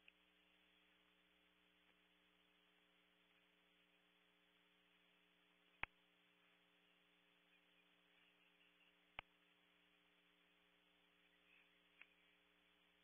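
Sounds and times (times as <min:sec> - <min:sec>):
faint hiss: 0:00.0 - 0:13.0
low electrical hum: 0:00.0 - 0:13.0.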